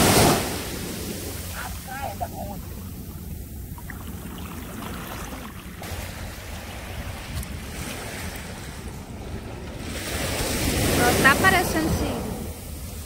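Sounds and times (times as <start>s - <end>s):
surf washing onto beach: 0.0s - 13.0s
wind buffeting microphone: 0.0s - 13.0s.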